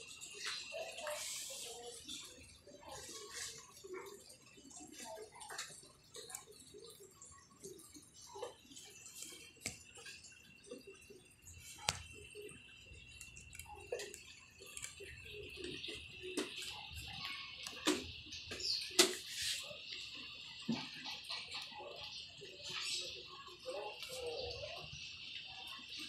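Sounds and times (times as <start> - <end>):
guinea pigs eating and moving: 0.0 - 26.0.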